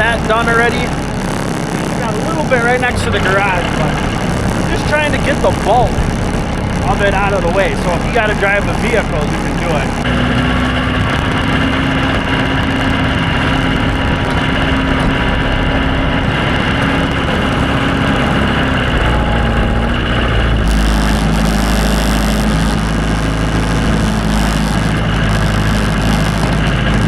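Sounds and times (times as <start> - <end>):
snow plow engine running: 0.0 - 27.0.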